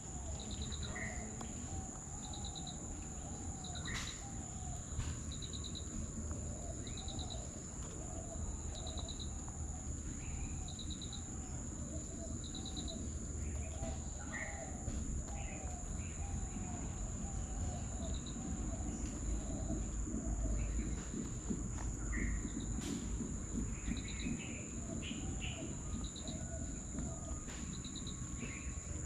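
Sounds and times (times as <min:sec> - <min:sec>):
high insect drone: 0:00.0 - 0:29.0.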